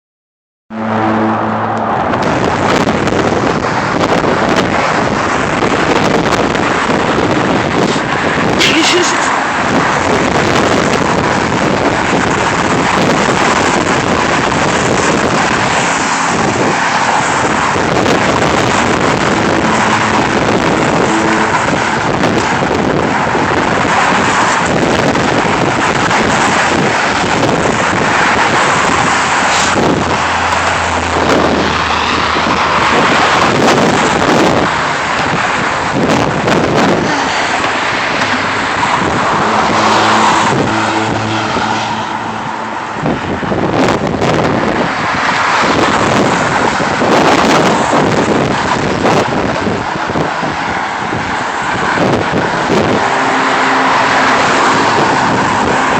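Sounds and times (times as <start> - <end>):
car traffic: 0.7 - 55.9
wind rushing over microphone: 0.8 - 55.9.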